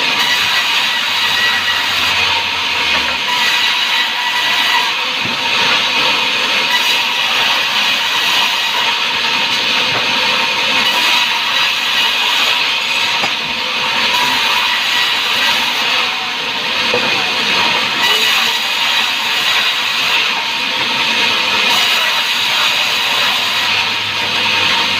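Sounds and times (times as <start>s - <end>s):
saw cutting timber: 0.0s - 24.9s.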